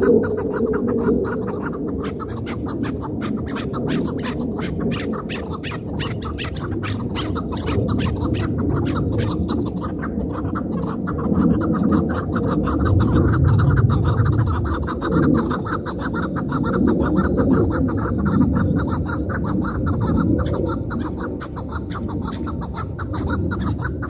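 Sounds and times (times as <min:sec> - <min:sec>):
low steady rumble: 0:00.0 - 0:24.0
partridge calling: 0:00.0 - 0:24.0.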